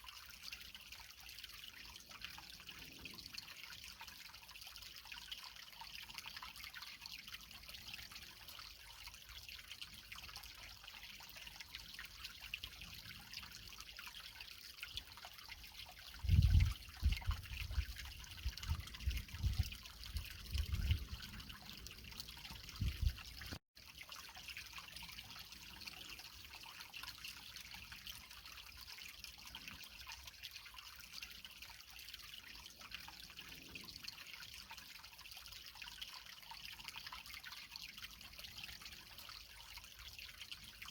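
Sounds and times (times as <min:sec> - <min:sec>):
creek water trickling over rocks: 0:00.0 - 0:40.9.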